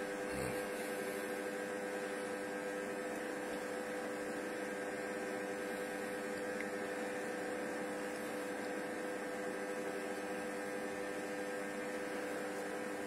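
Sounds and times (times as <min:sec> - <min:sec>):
kitchen robot humming: 0:00.0 - 0:13.0.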